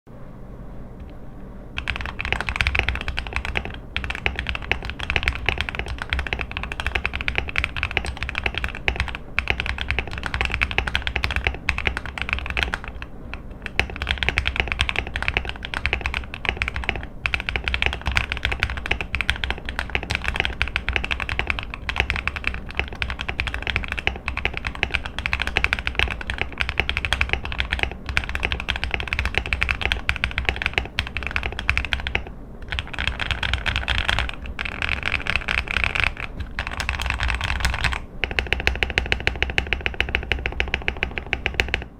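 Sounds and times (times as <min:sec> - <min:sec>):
mechanical keyboard typing: 0:01.8 - 0:41.9.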